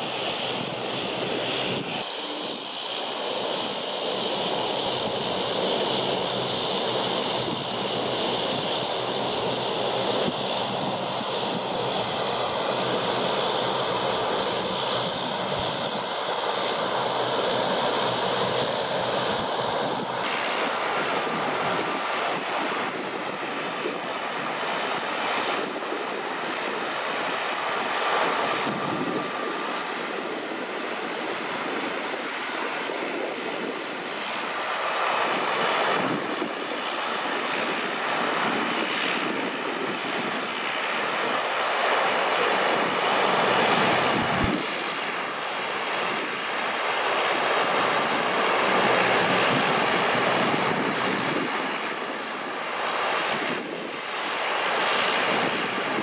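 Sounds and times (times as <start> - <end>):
jet engine rushing noise: 0.0 - 56.0.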